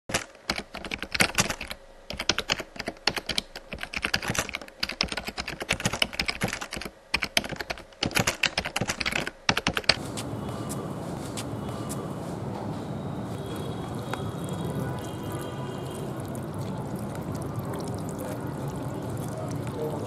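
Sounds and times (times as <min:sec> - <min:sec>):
keyboard typing: 0:00.1 - 0:20.0.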